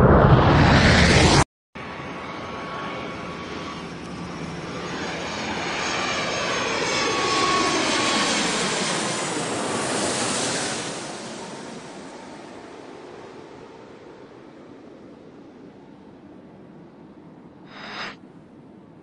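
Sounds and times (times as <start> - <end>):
jet airliner flying past: 0.0 - 18.9.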